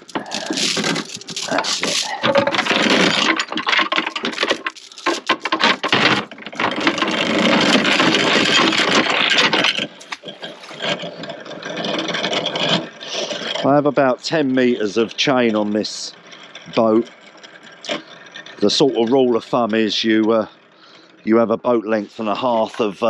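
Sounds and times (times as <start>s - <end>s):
anchor chain rattling: 0.0s - 23.0s.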